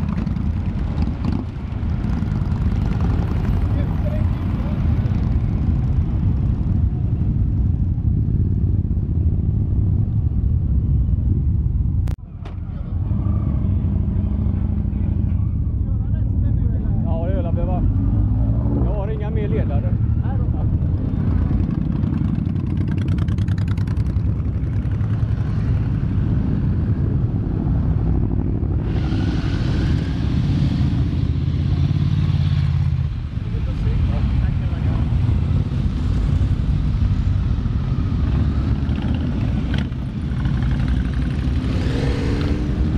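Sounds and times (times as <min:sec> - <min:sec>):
motorcycle engines rumbling: 0:00.0 - 0:42.9.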